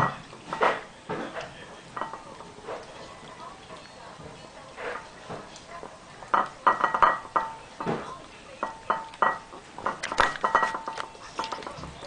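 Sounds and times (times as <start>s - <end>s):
dog eating from ceramic plate: 0.0s - 12.0s.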